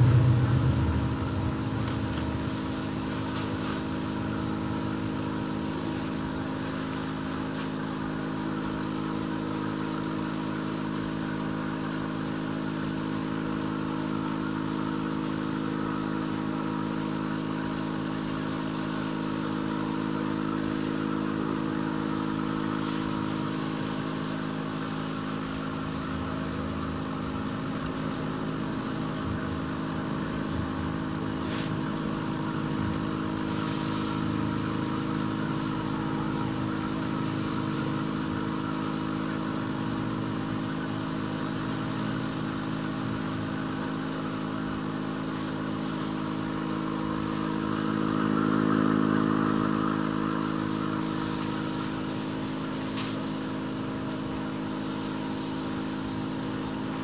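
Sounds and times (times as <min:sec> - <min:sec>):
aquarium air pump humming: 0:00.0 - 0:57.0.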